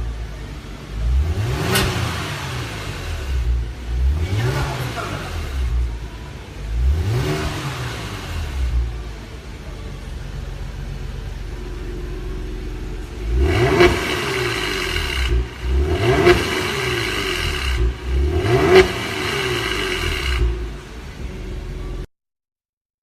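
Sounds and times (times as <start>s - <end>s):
car engine idling and revving: 0.0s - 22.1s.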